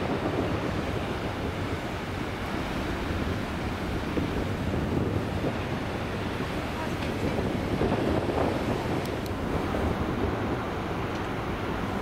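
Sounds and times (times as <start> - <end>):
low rumble of ship and water: 0.0 - 12.0
wind buffeting microphone: 0.0 - 12.0.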